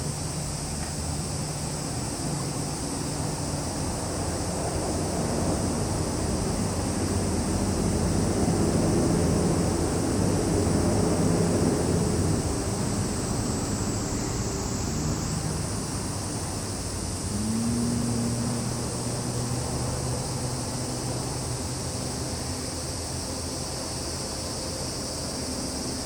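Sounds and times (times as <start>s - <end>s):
cicadas and crickets droning: 0.0s - 26.0s.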